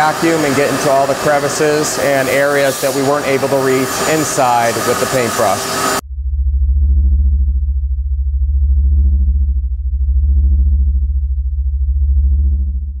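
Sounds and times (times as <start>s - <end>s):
deep synthesizer bass drone: 0.0s - 13.0s.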